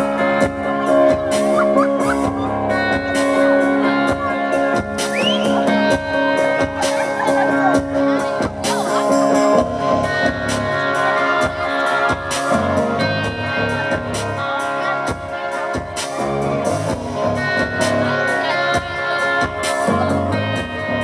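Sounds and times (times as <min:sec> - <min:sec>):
bass guitar: 0:00.0 - 0:21.0
electric guitars: 0:00.0 - 0:21.0.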